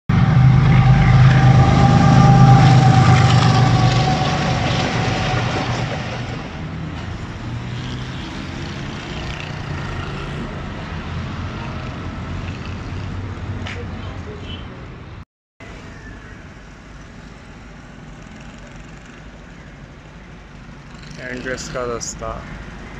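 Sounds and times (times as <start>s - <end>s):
locomotive engine drone: 0.1s - 13.4s, 15.6s - 22.9s
outdoor background noise: 0.1s - 22.9s.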